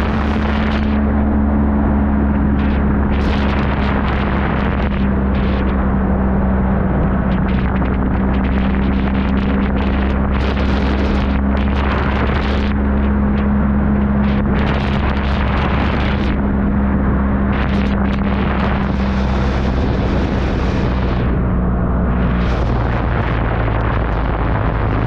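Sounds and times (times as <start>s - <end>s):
motorcycle engine humming: 0.0s - 25.0s
wind rushing over microphone: 0.0s - 25.0s.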